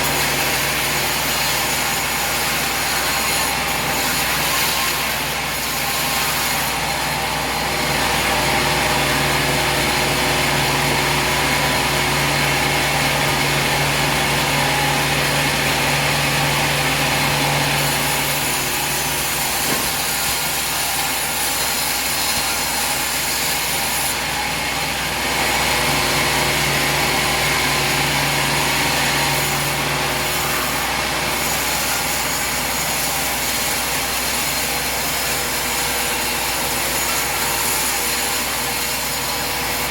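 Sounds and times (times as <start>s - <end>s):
saw whine: 0.0s - 39.9s
sawmill machinery humming: 0.0s - 39.9s.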